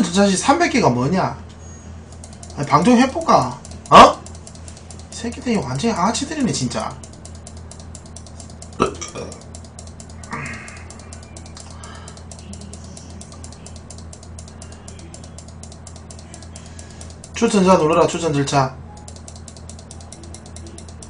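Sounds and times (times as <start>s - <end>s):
fast mechanical clicking: 0.0s - 1.4s, 2.0s - 21.0s
low steady hum: 0.0s - 21.0s.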